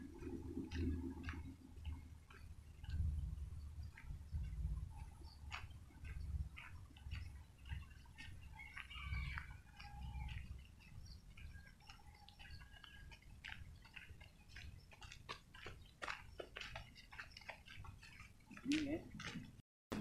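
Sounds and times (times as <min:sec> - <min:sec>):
bird chirps: 0:02.3 - 0:19.0
footsteps on gravel: 0:02.8 - 0:19.6.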